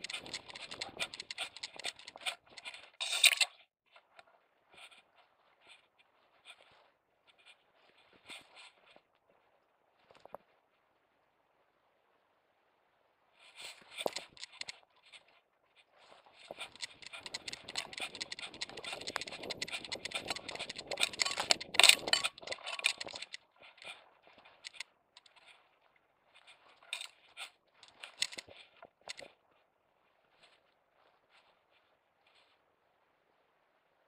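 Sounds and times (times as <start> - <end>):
dry grass rustling against camera: 0.0 - 9.4, 13.4 - 32.6.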